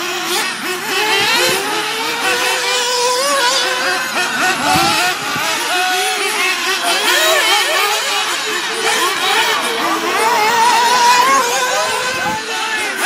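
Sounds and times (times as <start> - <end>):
rc car engines buzzing: 0.0 - 13.0.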